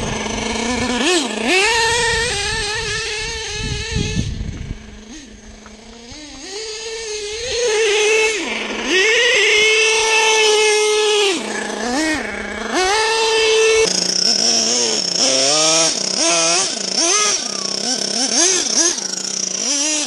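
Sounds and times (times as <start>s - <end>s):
rc truck engine buzzing: 0.0s - 20.0s.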